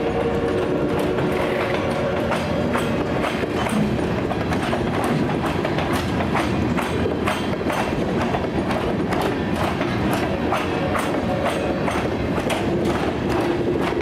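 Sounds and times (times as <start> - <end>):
freight train cars rumbling: 0.0 - 14.0
wheels clacking over rail joints: 0.0 - 14.0.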